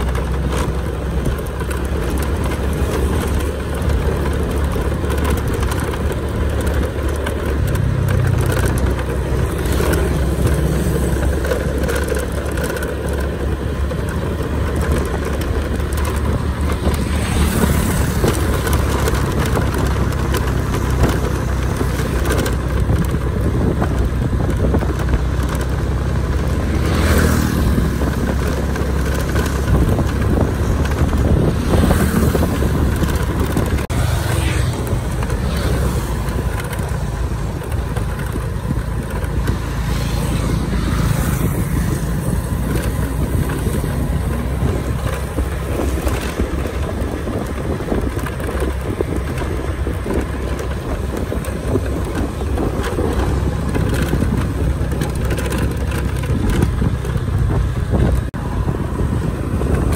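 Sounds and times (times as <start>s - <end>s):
motor vehicle rumbling: 0.0s - 59.9s.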